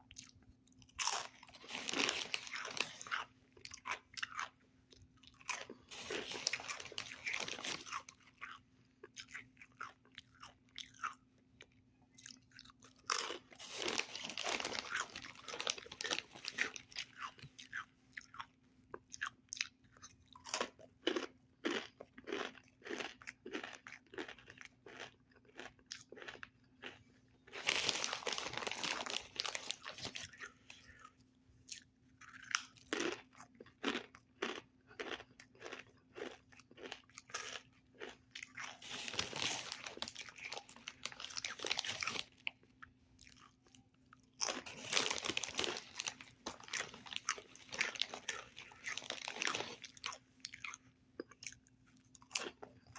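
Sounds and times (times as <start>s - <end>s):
crunching and chewing chips: 0.0s - 52.9s.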